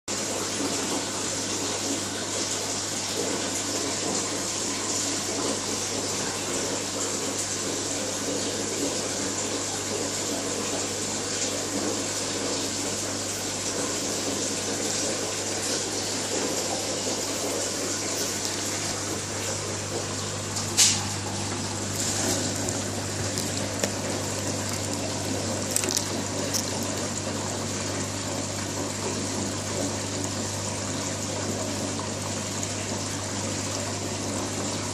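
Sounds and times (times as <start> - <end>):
water rushing through plumbing: 0.1 - 34.9.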